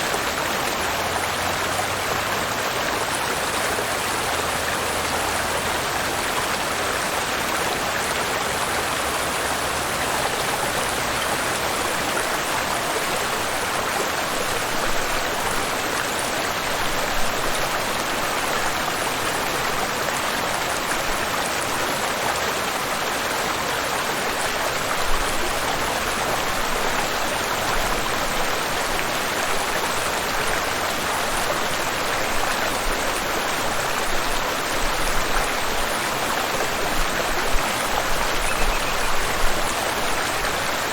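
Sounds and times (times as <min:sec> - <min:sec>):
waterfall and river rushing: 0:00.0 - 0:40.9.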